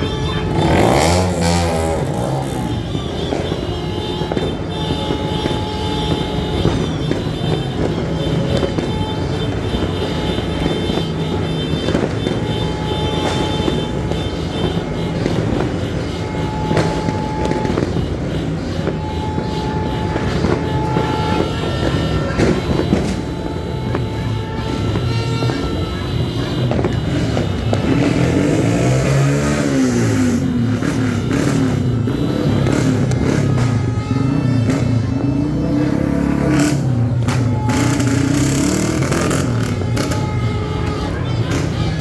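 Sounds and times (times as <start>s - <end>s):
vehicle engines rumbling: 0.0s - 42.0s.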